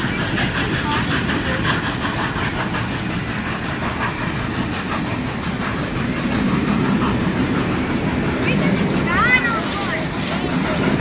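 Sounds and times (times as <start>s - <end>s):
train cars rumbling past: 0.0s - 11.0s
wheels clacking on rails: 0.0s - 11.0s.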